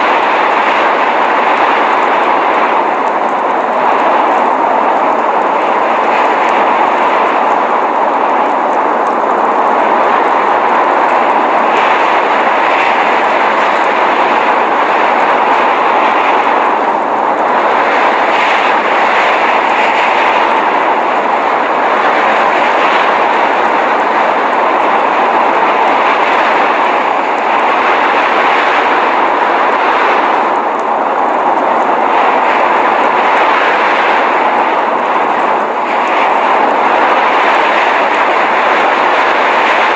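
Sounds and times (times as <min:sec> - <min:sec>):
blizzard rushing: 0:00.0 - 0:39.9.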